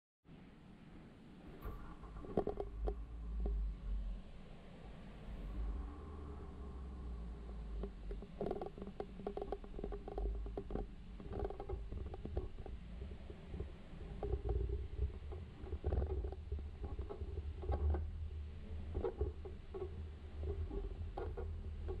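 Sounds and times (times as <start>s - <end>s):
vehicle rumbling on dirt road: 1.5s - 22.0s.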